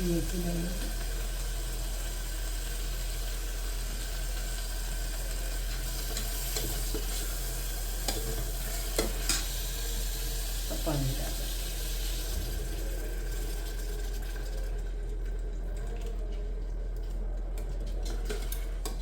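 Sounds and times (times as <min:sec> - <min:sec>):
masala sizzling while stirred: 0:00.0 - 0:15.6.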